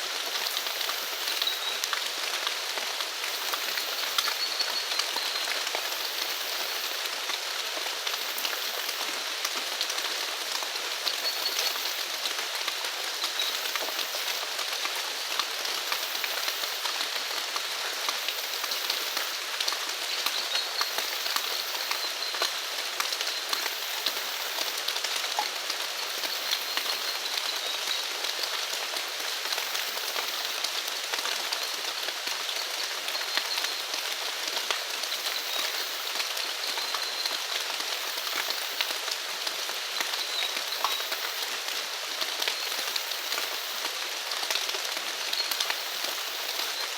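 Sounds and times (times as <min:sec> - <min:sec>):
steady rain patter: 0:00.0 - 0:46.9.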